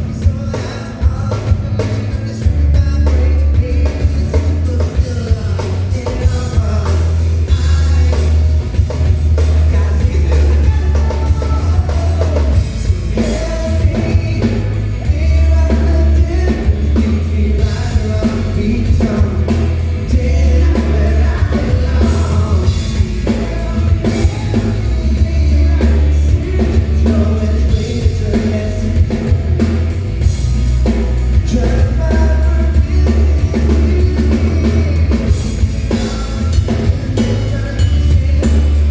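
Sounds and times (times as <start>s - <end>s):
live pop-rock band: 0.0s - 38.9s
person singing: 0.0s - 38.9s.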